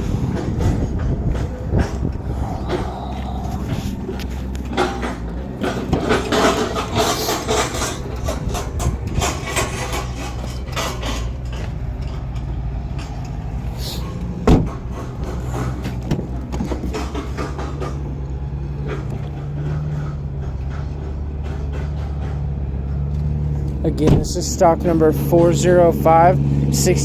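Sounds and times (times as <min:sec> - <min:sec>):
clatter and knocks: 0:00.0 - 0:13.6, 0:14.4 - 0:24.4
low engine-like hum: 0:00.0 - 0:27.0.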